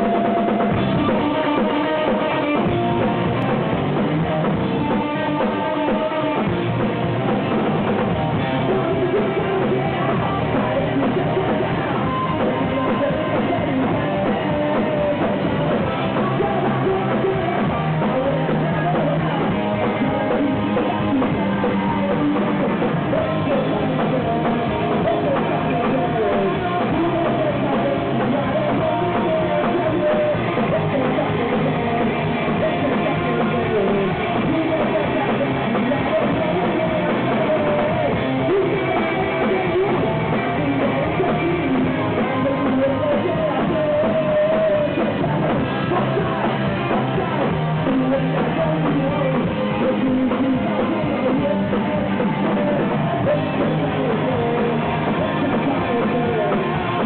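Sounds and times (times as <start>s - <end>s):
drum kit: 0.0s - 57.0s
electric guitar: 0.0s - 57.0s
man singing: 0.0s - 57.0s.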